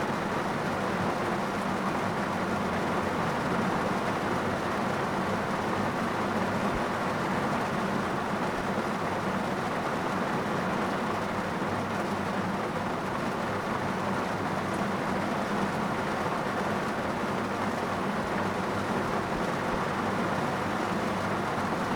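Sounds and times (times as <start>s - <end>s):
rain on car roof: 0.1s - 21.9s.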